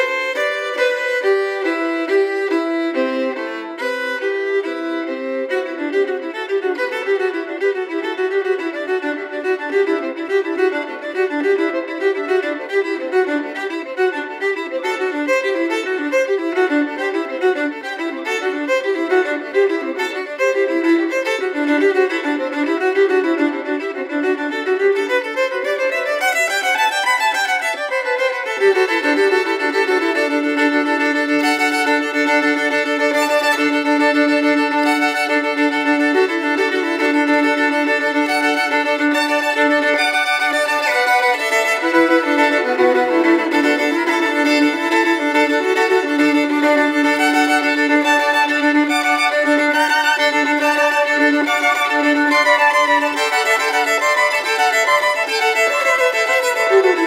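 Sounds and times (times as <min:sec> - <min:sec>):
bowed string slow melody: 0:00.0 - 0:57.0.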